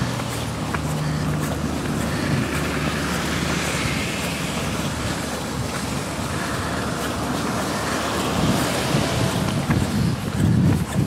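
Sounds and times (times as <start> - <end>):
road traffic rushing: 0.0 - 11.0
wind buffeting microphone: 0.0 - 11.0.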